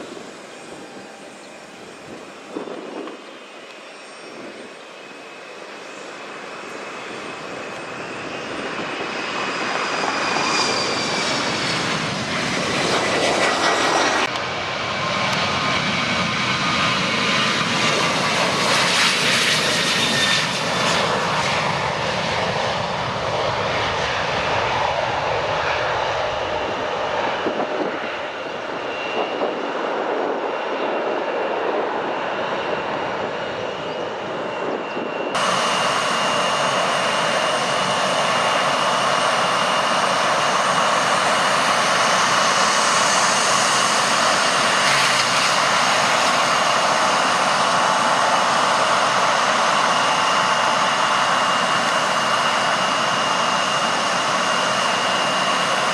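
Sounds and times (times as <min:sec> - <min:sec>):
airliner engines whining and rushing: 0:00.0 - 0:55.9.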